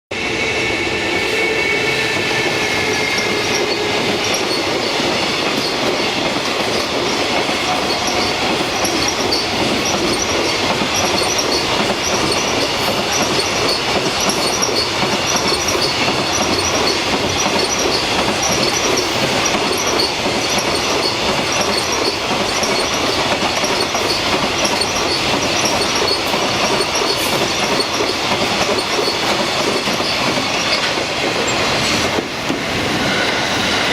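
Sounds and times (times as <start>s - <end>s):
wheels rumbling on rail: 0.1s - 33.9s
wheel squeal: 2.4s - 31.6s
wheels clattering over rail joints: 3.5s - 32.6s.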